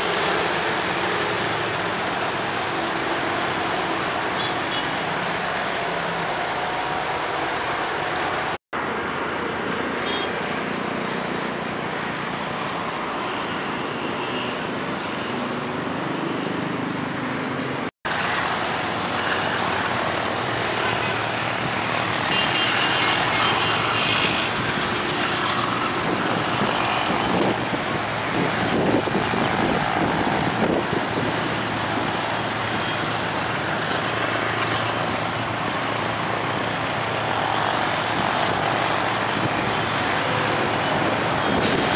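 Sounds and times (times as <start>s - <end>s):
traffic noise: 0.0s - 41.9s.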